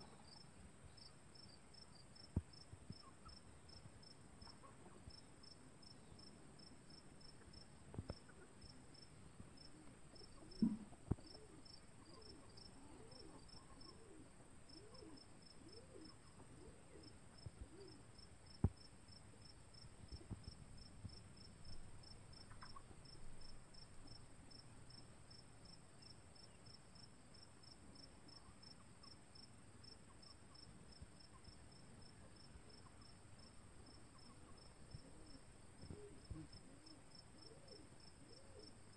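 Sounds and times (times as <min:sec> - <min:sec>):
crickets chirping: 0:00.0 - 0:38.9
high insect hum: 0:00.0 - 0:38.9.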